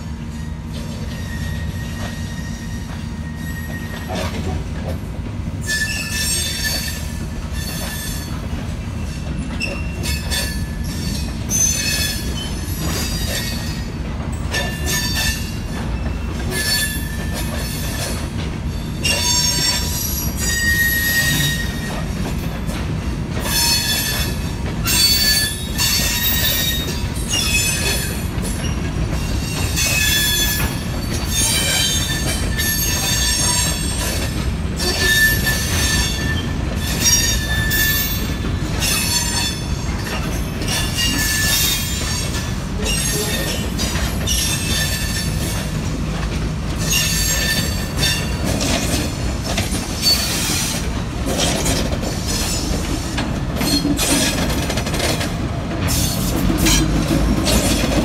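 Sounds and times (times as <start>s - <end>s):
train wheels squealing on rails: 0.0s - 58.0s.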